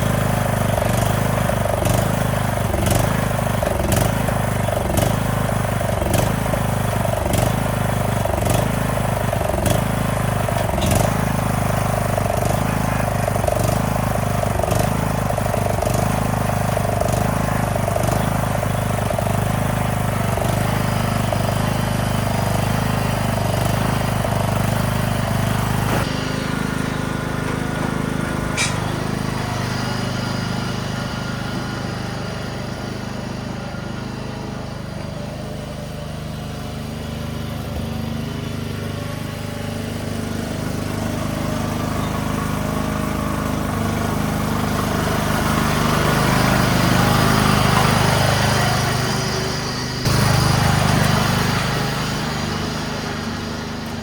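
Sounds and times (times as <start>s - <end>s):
riding mower engine running: 0.0s - 54.0s.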